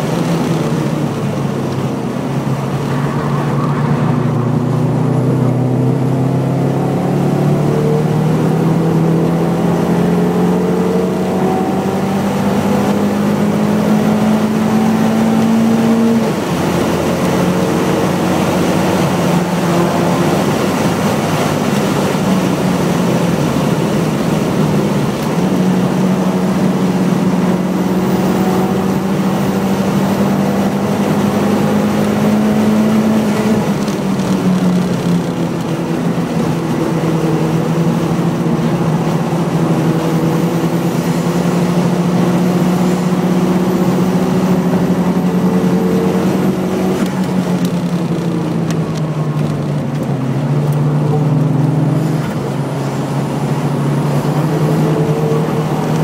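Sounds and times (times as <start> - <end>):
car engine under hard driving: 0.0 - 56.0.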